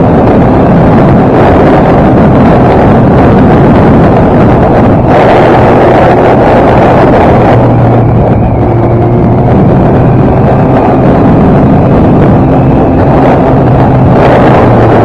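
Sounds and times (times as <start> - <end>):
motorcycle engine cruising: 0.0 - 15.0
wind buffeting on microphone: 0.0 - 15.0.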